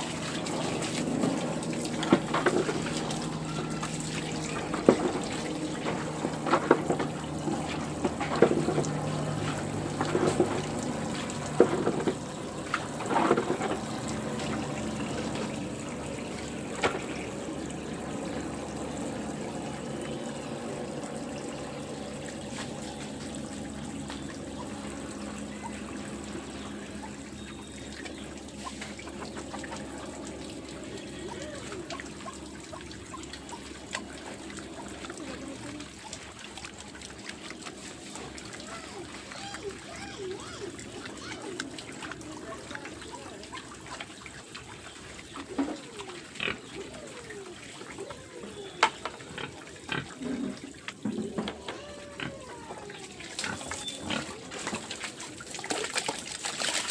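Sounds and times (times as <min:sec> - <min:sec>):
water running and trickling: 0:00.0 - 0:56.9.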